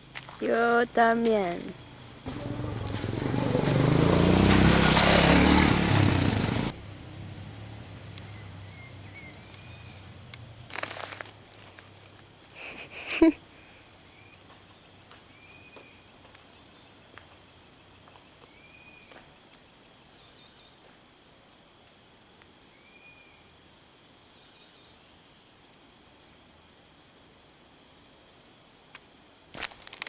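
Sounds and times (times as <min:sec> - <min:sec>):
crickets and insects buzzing: 0:00.0 - 0:30.0.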